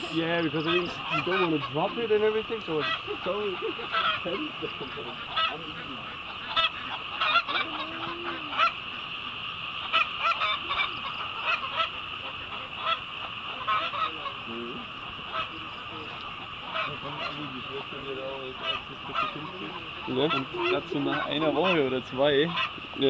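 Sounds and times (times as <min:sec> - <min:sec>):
birds honking: 0:00.0 - 0:23.0
steady high buzz: 0:00.0 - 0:23.0.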